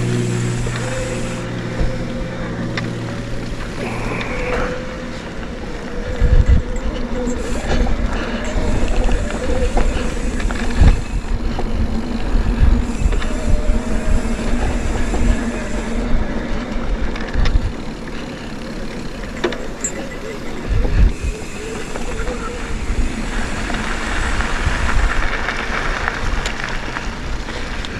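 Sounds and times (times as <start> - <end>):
bike rattling: 0.0 - 27.9
bike tyres rumbling on dirt: 0.0 - 27.9.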